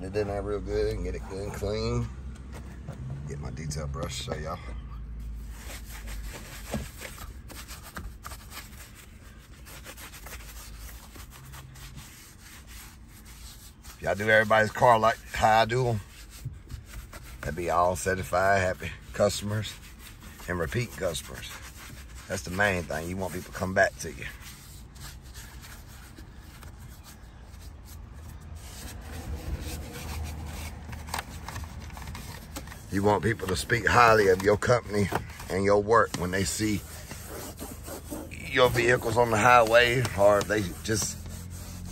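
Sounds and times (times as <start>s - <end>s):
brush scrubbing wet surface: 5.4s - 41.9s.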